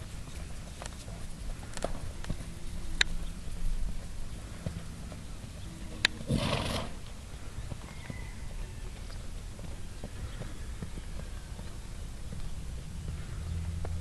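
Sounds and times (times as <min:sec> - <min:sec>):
hoofbeats on sand: 0:00.0 - 0:14.0.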